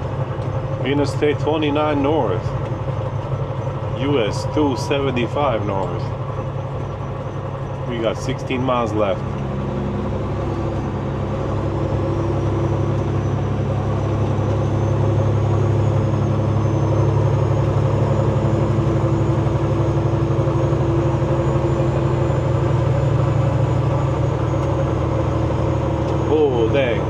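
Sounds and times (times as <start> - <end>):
road noise: 0.0 - 27.0
truck diesel engine drone: 0.0 - 27.0.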